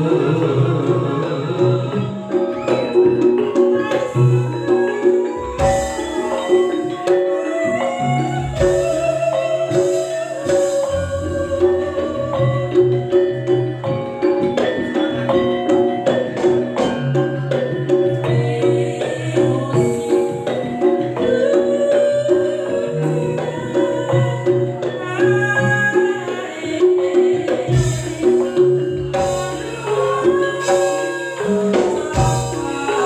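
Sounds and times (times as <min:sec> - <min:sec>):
hand drum and percussion: 0:00.0 - 0:33.0
melodic notes: 0:00.0 - 0:33.0.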